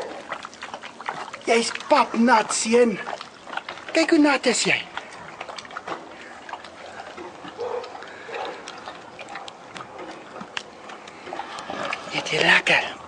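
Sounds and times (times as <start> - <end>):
tiger cub eating from bowl: 0.0 - 13.0.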